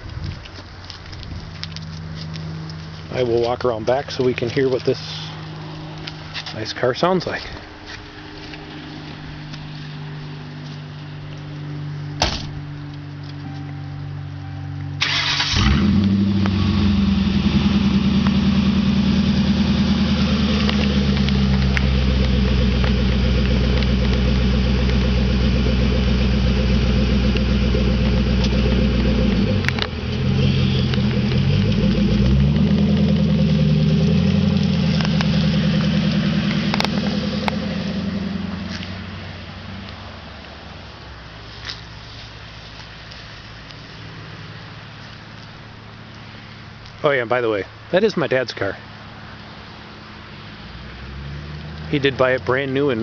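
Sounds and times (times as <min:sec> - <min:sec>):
car engine idling: 0:00.6 - 0:51.0.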